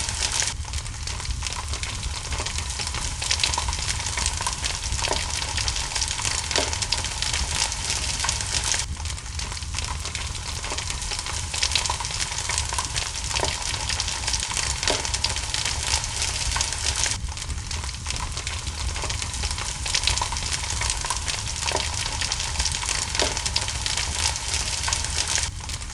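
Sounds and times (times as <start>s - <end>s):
low rumble: 0.0s - 25.9s
rain hissing: 0.0s - 25.9s
wood fire crackling: 0.0s - 25.9s.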